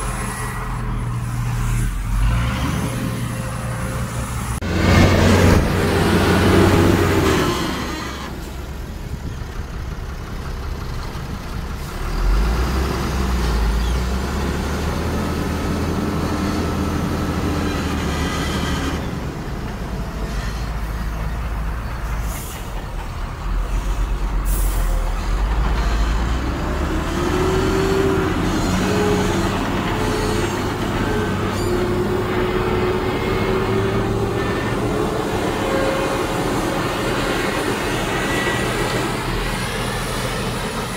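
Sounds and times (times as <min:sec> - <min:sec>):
diesel heavy machinery running: 0:00.0 - 0:40.9.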